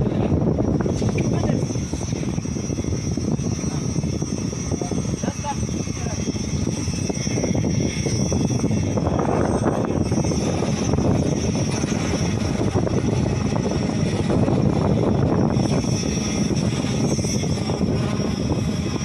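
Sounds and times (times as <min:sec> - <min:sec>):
construction machinery engines rumbling: 0:00.0 - 0:19.0.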